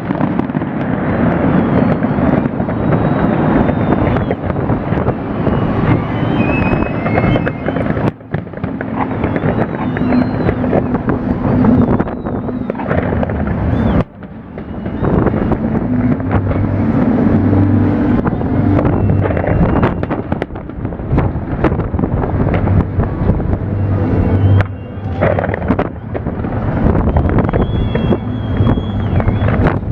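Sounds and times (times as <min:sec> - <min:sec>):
firework whistles: 0:00.0 - 0:29.9
fireworks bangs and crackles: 0:00.0 - 0:29.9
wind buffeting microphone: 0:00.0 - 0:29.9.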